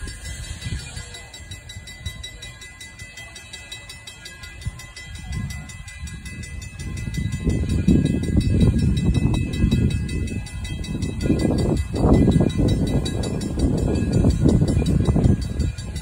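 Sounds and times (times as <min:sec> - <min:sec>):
steam locomotive rumbling: 0:00.0 - 0:16.0.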